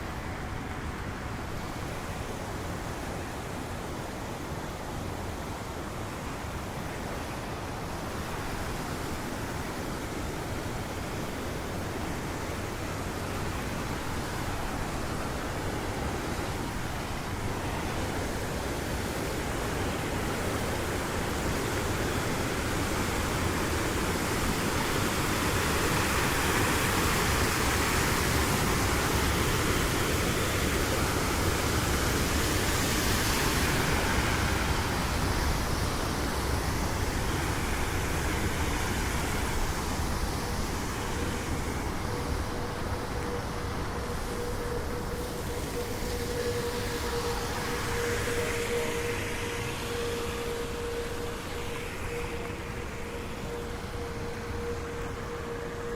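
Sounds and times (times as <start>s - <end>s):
faint steady hum: 0.0s - 55.9s
water rushing: 0.0s - 55.9s.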